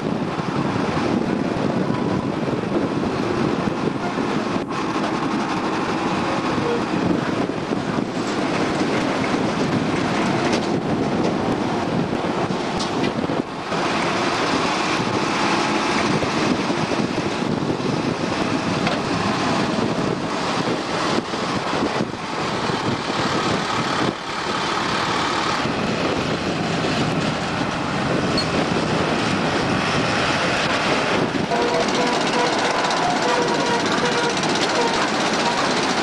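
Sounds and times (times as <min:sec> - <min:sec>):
harvester and tractor running: 0:00.0 - 0:36.0.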